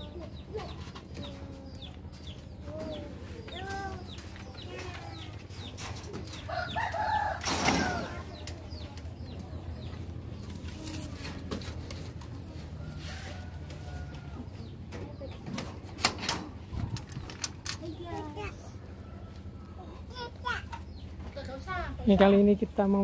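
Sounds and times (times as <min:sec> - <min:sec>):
birds clucking calls: 0:00.0 - 0:23.0.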